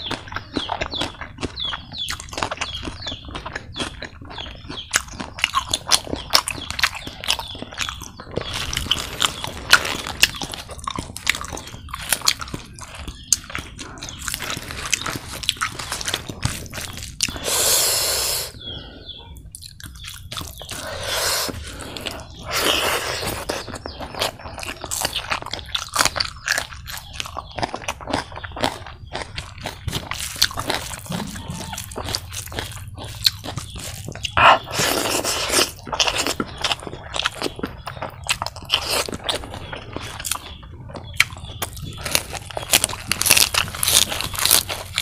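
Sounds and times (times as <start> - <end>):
man chewing food: 0.0 - 45.0.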